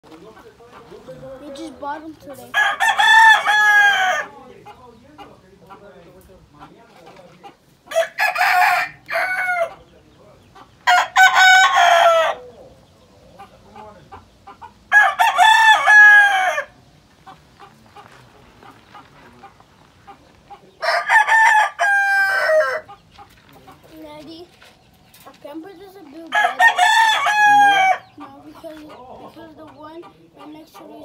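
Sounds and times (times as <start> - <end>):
roosters crowing: 0.4 - 23.9, 26.2 - 30.5.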